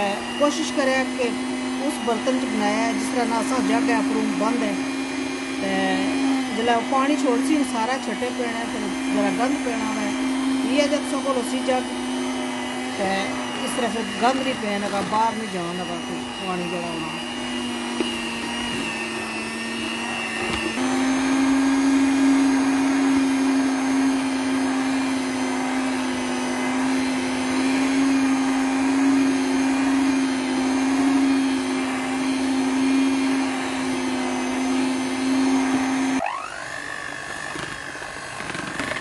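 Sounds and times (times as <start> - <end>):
electric mixer whisking cream: 0.0 - 39.0.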